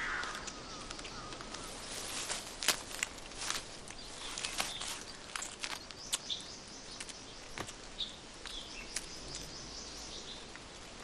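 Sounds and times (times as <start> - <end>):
sharp clicks and crackles: 0.0 - 9.6
faint steady hiss: 0.0 - 11.0.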